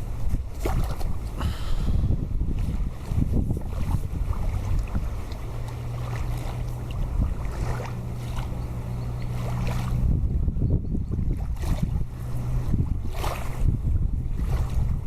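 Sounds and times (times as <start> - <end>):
motorboat engine droning: 0.0 - 15.0
wind buffeting microphone: 0.0 - 15.0.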